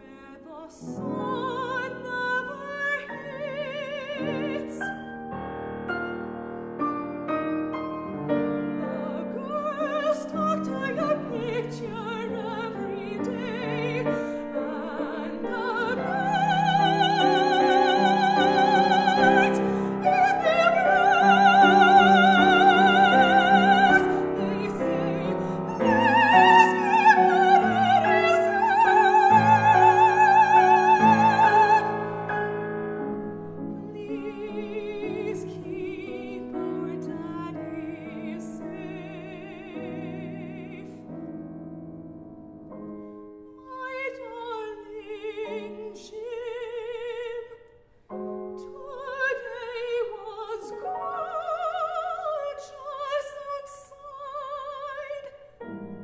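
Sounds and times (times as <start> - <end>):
woman singing opera: 0.0 - 5.2, 8.3 - 32.5, 33.6 - 41.2, 43.6 - 47.7, 48.6 - 56.0
grand piano: 0.0 - 56.0.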